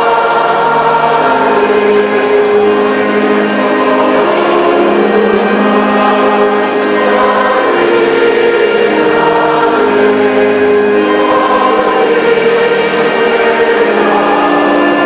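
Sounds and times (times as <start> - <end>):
choir singing a slow hymn: 0.0 - 15.0.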